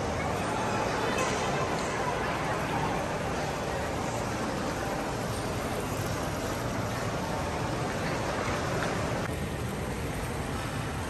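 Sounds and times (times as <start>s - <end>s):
indoor ambient noise: 0.0s - 11.0s.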